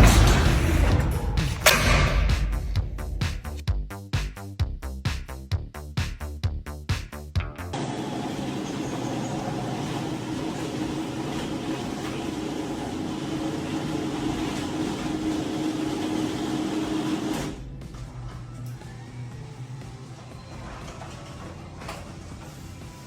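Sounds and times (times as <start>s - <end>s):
garage door opener humming: 0.0s - 3.5s, 7.7s - 23.0s.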